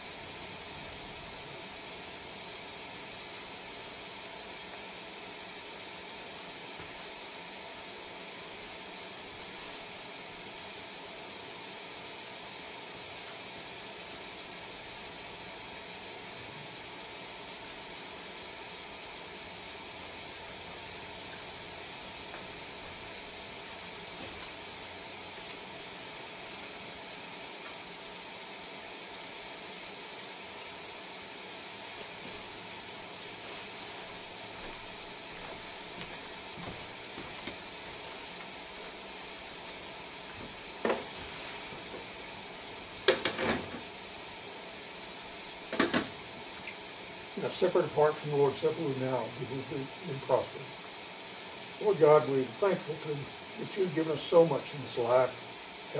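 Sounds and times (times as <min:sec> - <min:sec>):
recording hiss: 0:00.0 - 0:55.9.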